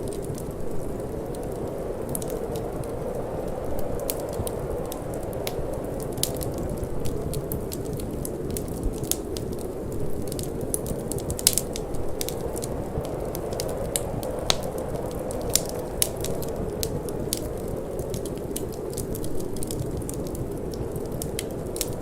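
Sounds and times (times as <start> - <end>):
wind: 0.0 - 22.0
wood fire crackling and popping: 0.0 - 22.0.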